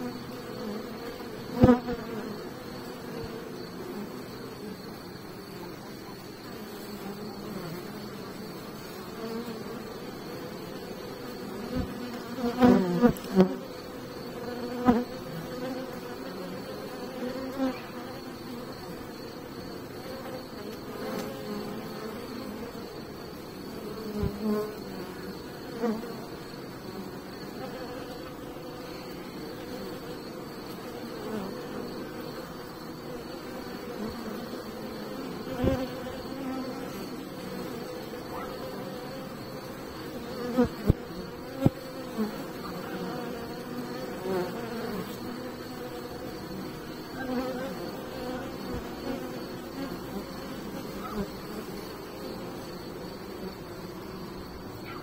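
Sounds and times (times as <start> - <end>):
bees humming: 0.0 - 55.0
single bee buzzing close by: 0.0 - 55.0.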